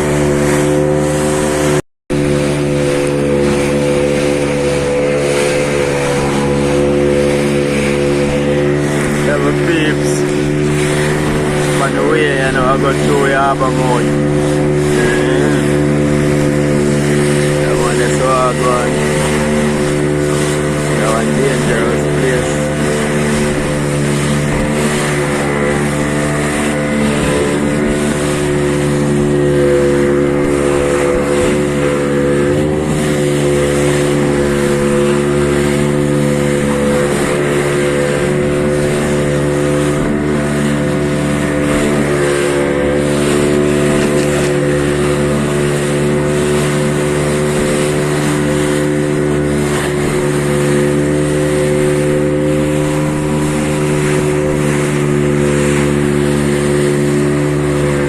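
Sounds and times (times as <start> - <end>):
boat engine running: 0.0 - 58.0
water wash: 0.0 - 58.0
wind: 0.0 - 58.0.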